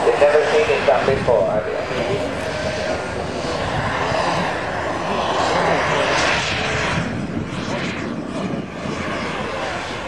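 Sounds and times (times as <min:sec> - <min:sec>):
model jet turbine flying past: 0:00.0 - 0:10.0.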